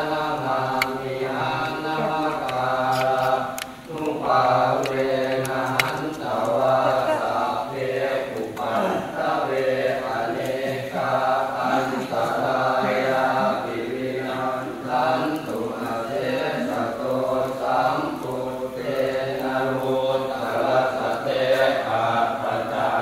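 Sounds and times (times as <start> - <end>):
voices chanting prayers: 0.0 - 23.0.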